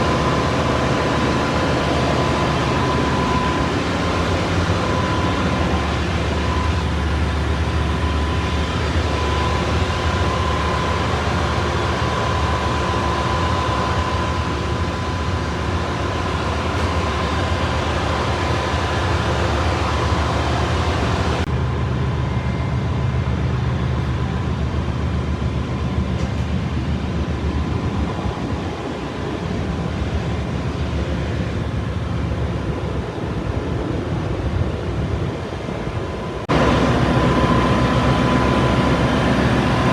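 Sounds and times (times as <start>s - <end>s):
engine room machinery drone: 0.0s - 39.9s
steady high whine: 0.0s - 39.9s.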